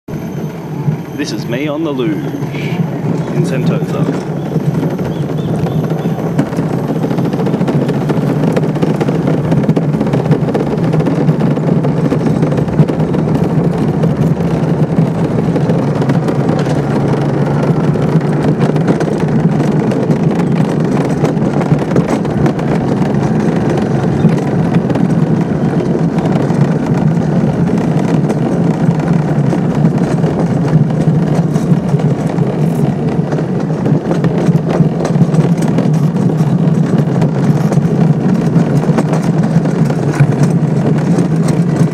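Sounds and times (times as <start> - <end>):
cart wheels rumbling on concrete: 0.1 - 41.9
small clicks from bumps: 3.1 - 41.9.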